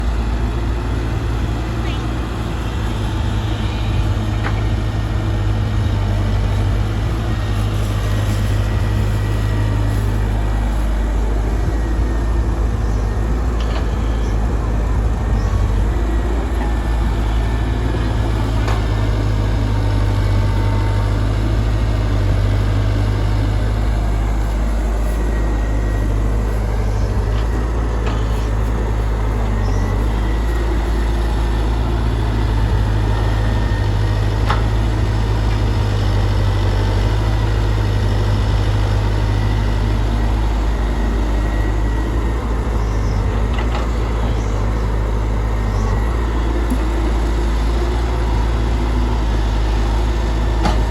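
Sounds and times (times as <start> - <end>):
excavator diesel engine rumbling: 0.0 - 50.9.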